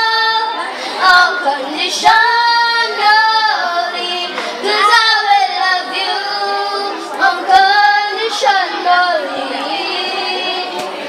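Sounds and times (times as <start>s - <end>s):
girl singing into microphone: 0.0s - 11.0s.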